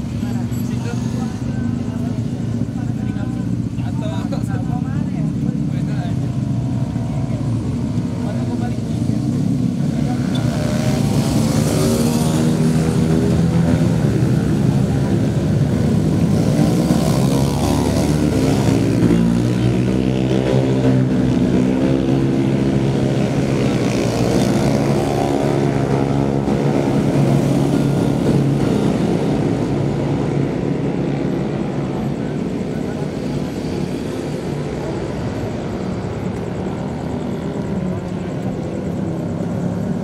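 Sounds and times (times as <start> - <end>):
motorcycle engines revving: 0.0 - 40.0
traffic drone: 0.0 - 40.0.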